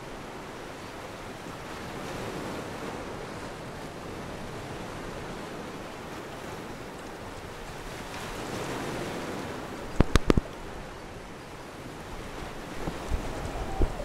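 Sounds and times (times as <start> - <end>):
small waves lapping: 0.0 - 14.0
wind on microphone: 0.0 - 14.0.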